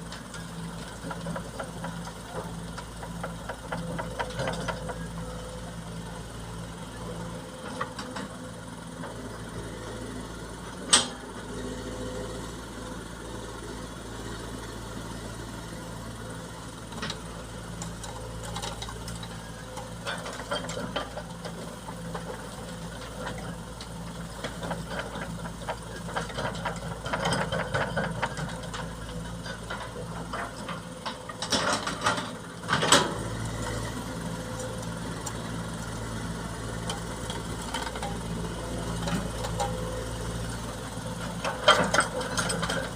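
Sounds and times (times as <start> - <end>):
heavy machinery diesel engine: 0.0 - 42.9.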